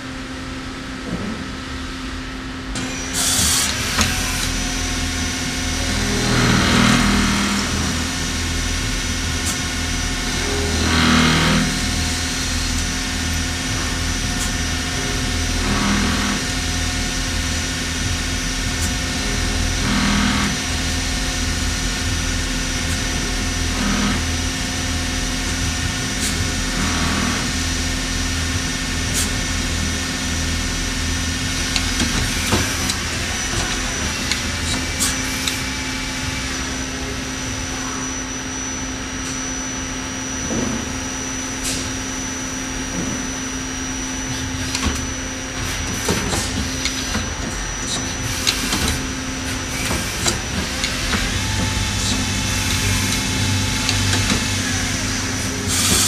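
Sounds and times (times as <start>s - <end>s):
lathe humming: 2.5s - 56.0s
thin high whine: 2.8s - 56.0s.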